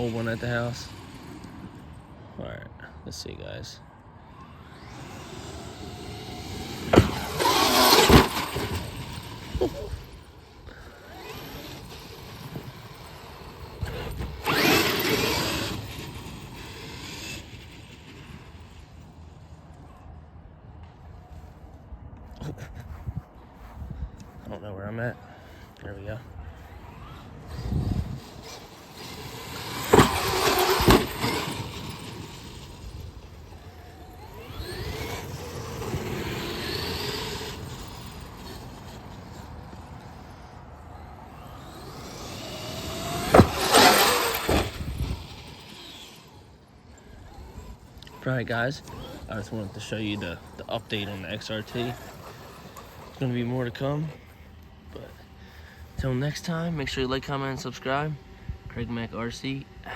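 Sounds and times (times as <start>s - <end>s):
electric motor whining: 0.0s - 2.4s, 4.1s - 20.2s, 25.3s - 59.9s
toy truck running rush: 0.0s - 2.6s, 4.2s - 20.2s, 24.9s - 59.9s.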